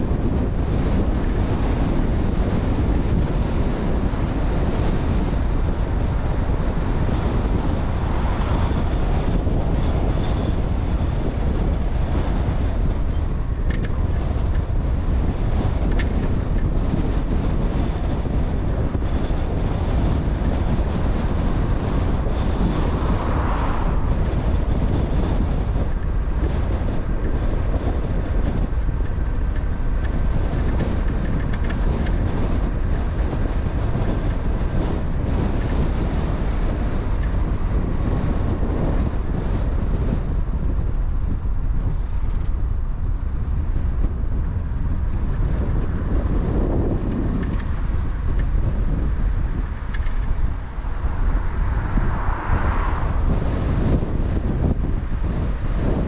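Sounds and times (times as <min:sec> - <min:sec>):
road and wind rumble: 0:00.0 - 0:56.0.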